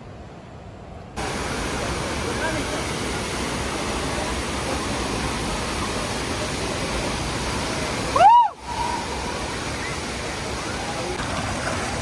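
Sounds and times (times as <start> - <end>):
waterfall roaring: 1.2 - 12.0.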